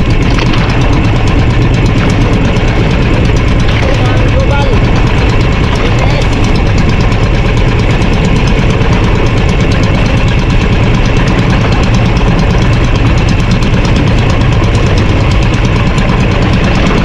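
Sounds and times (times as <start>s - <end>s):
boat engine running loud: 0.0s - 17.0s.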